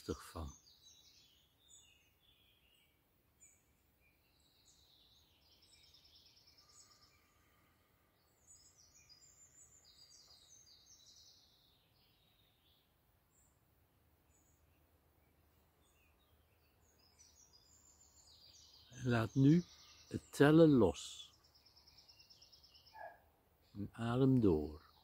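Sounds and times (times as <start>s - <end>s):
small birds chirping and trilling: 0.0s - 25.0s.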